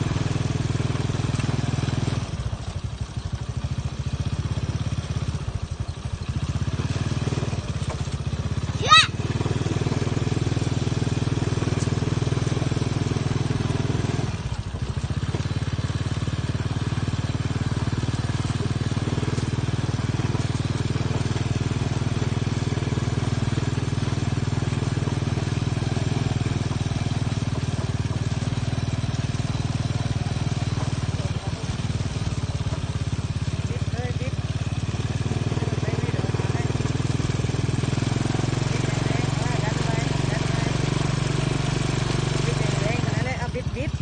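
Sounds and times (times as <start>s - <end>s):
small motorcycle engine running: 0.0s - 44.0s.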